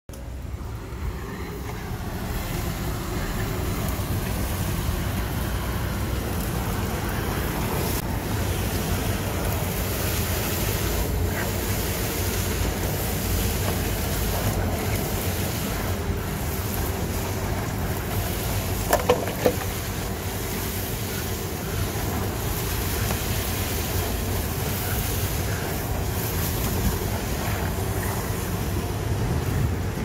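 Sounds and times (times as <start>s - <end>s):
street vacuum suction rushing: 0.1s - 30.0s.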